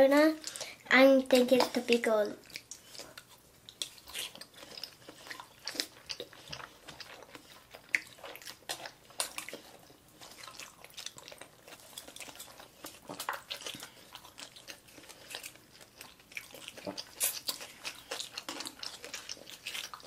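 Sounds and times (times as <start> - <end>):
children chewing and smacking: 0.0 - 20.0.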